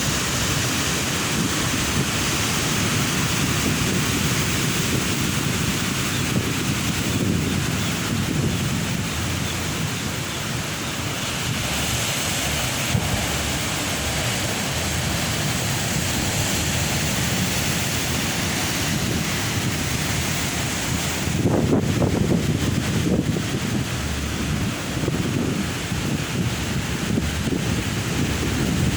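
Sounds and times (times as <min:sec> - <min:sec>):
ocean surf breaking: 0:00.0 - 0:28.9
wind buffeting microphone: 0:00.0 - 0:28.9.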